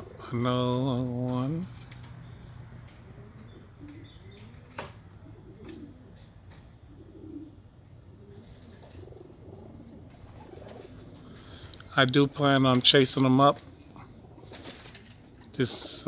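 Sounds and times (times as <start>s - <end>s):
pigeons cooing softly: 0.0s - 16.0s.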